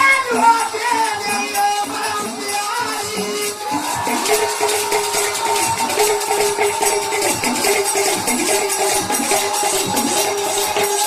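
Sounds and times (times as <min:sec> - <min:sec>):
jingling percussion: 0:00.0 - 0:11.0.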